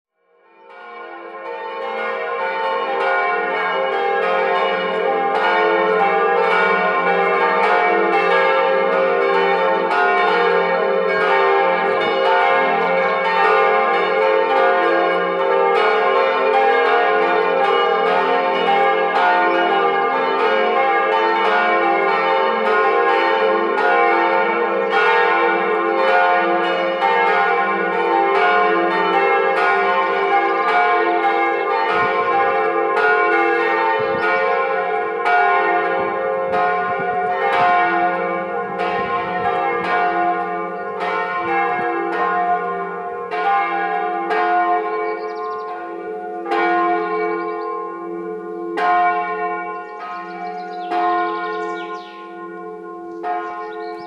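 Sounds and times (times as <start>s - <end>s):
church bells ringing: 0.2s - 54.0s.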